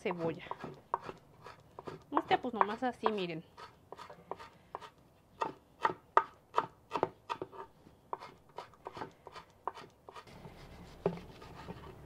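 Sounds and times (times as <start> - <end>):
knife chopping on wooden board: 0.5 - 10.2.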